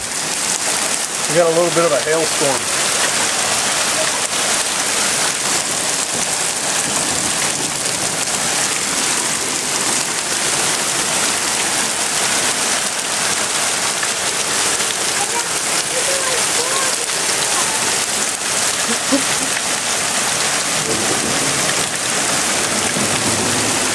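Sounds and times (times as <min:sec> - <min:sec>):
rain and hail pattering: 0:00.0 - 0:23.9.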